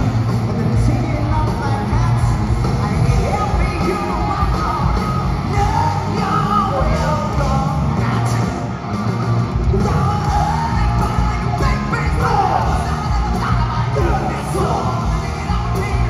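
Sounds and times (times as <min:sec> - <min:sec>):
person singing: 0:00.0 - 0:08.9, 0:09.6 - 0:16.0
live rock band playing: 0:00.0 - 0:16.0.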